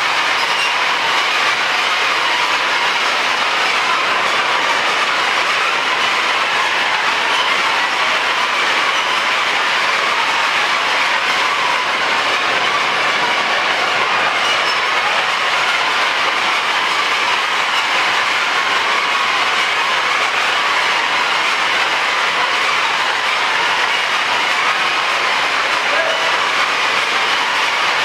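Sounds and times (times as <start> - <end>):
chain conveyor mechanical noise: 0.0 - 28.0.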